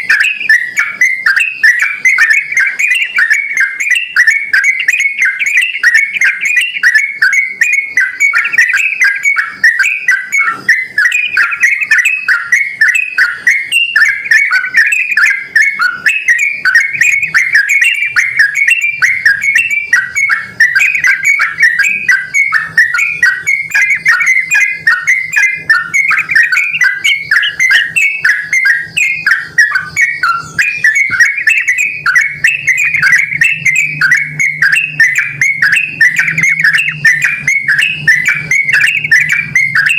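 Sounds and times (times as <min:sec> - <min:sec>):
bird singing fast chirping notes: 0:00.0 - 0:39.9.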